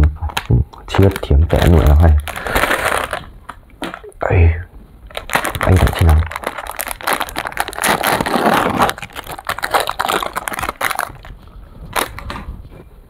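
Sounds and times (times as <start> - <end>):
plastic wrapper crinkling and tearing: 0.2 - 4.2, 5.0 - 12.7.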